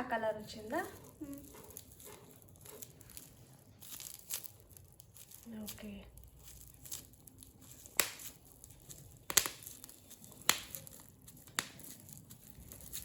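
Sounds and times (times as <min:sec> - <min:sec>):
bubble wrap crackling snaps: 0:00.6 - 0:13.0.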